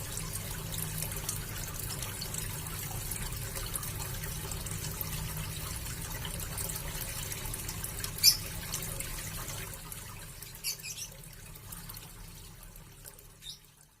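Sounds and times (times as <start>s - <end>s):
water trickling into pond: 0.0s - 14.0s.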